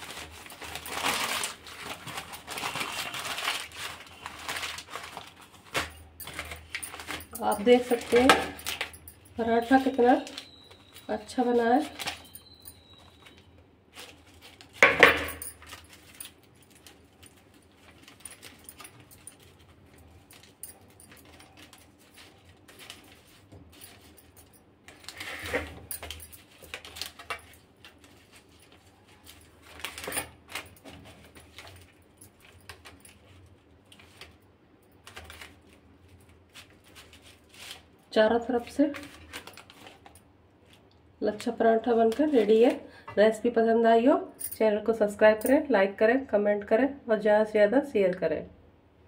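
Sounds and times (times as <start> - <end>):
paper crinkling: 0.0 - 9.0, 9.6 - 14.9, 15.5 - 24.3, 24.9 - 34.4, 35.0 - 42.8.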